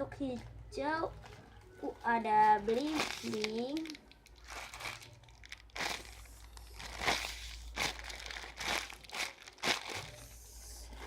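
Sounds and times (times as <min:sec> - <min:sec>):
packaging crinkling: 0:01.1 - 0:11.0.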